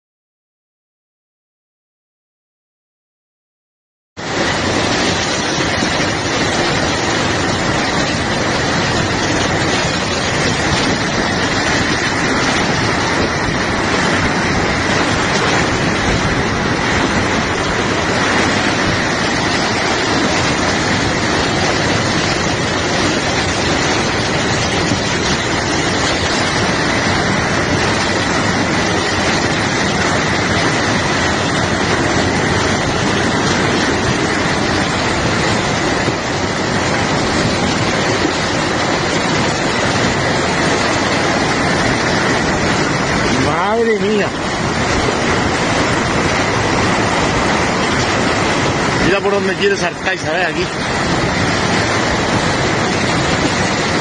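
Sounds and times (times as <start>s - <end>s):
floodwater rushing: 4.2s - 54.0s.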